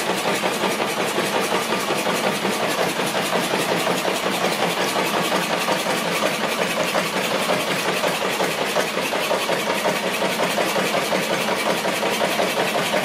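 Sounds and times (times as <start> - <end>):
diesel engine running slowly: 0.0 - 13.0.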